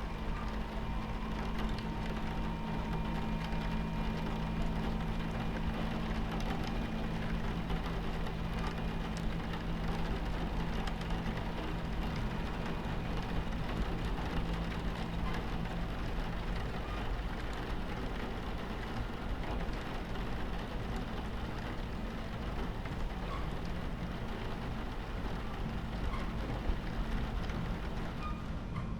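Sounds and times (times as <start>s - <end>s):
rain pattering on window: 0.0s - 28.6s
train rumbling: 0.0s - 28.9s.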